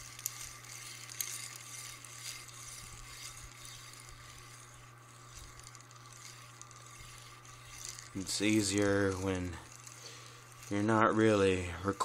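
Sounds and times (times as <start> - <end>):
steady low hum: 0.0 - 12.0
toy wheel rolling on rails: 0.0 - 12.0.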